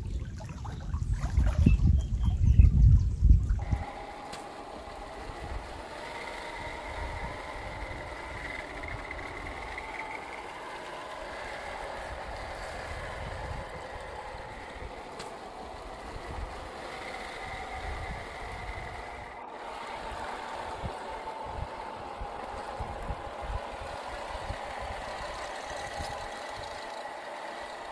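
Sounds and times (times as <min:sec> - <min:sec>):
small electric motor whining: 0:01.6 - 0:27.9.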